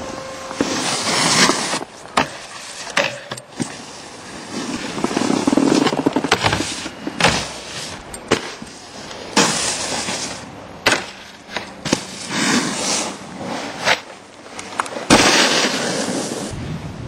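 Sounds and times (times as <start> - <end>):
snowboard scraping on snow: 0.0 - 2.9, 3.6 - 10.5, 11.5 - 14.2, 14.9 - 16.9
snowboard sliding on metal rail: 0.0 - 16.7
snowboard knocks and clacks: 0.6 - 16.5.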